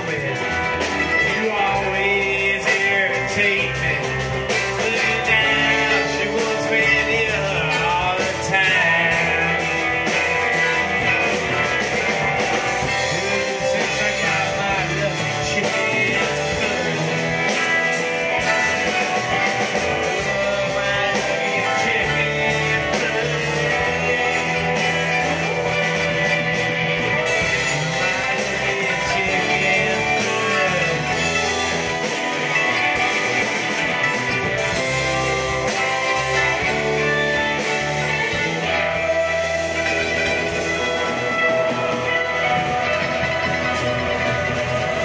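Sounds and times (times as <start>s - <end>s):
drum kit: 0.0s - 45.0s
electric guitars: 0.0s - 45.0s.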